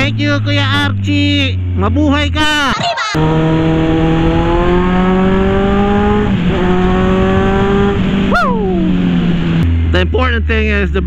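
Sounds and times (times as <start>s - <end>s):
motorcycle engine accelerating: 0.0s - 11.0s
wind and road noise: 0.0s - 11.0s.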